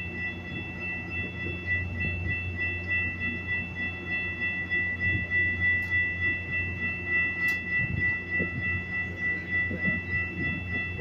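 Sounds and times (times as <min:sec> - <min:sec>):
steady high-pitched tone: 0:00.0 - 0:11.0
train low drone: 0:00.0 - 0:11.0.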